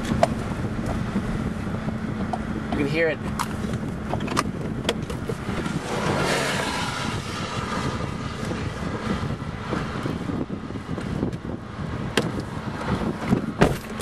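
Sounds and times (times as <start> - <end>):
rushing rumble of tornado: 0.0 - 14.0.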